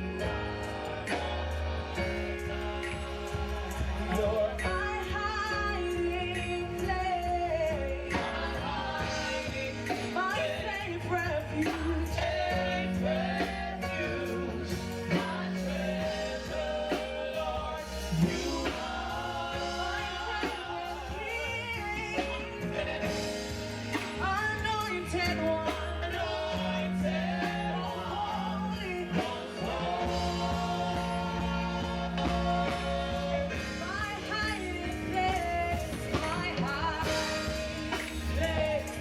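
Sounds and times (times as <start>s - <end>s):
bass: 0.0s - 39.0s
choir singing gospel music: 0.0s - 39.0s
drum beats: 0.0s - 39.0s.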